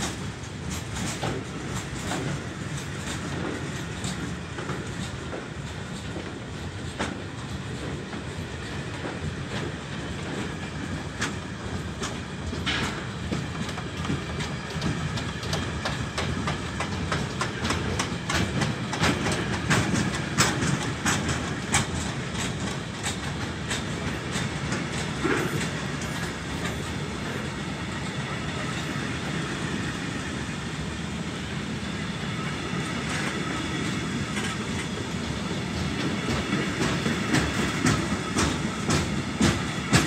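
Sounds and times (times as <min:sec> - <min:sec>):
train wheels clattering over rail joints: 0:00.0 - 0:40.0.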